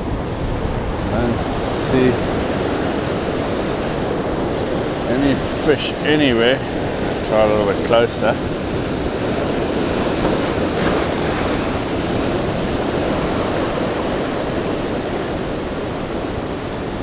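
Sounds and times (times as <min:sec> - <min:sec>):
rough surf breaking over rocks: 0:00.0 - 0:17.0.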